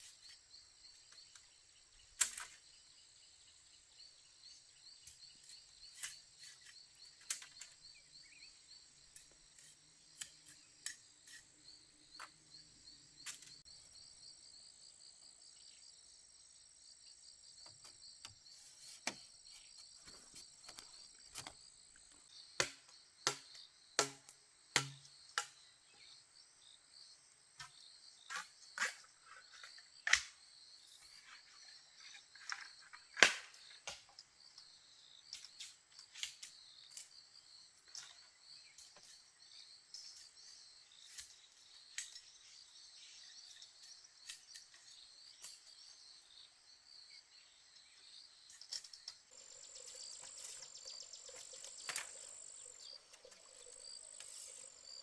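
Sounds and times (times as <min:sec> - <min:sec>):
insects chorus: 0:00.0 - 0:24.1, 0:24.7 - 0:55.0.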